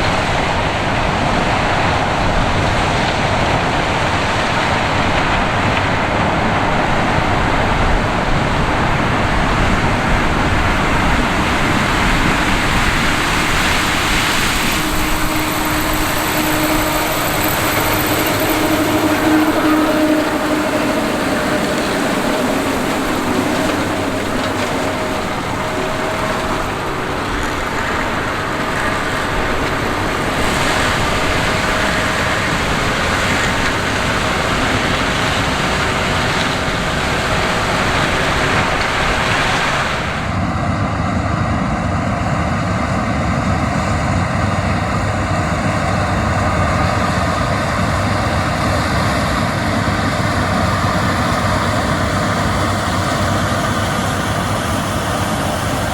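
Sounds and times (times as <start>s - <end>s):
diesel engine running under load: 0.0s - 55.9s.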